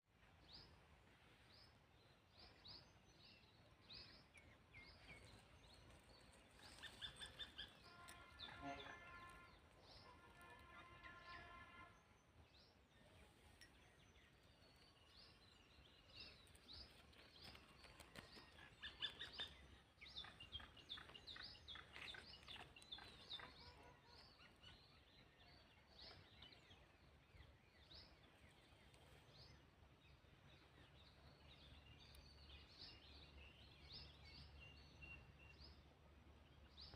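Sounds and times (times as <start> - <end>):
small birds chirping: 0.4 - 36.9.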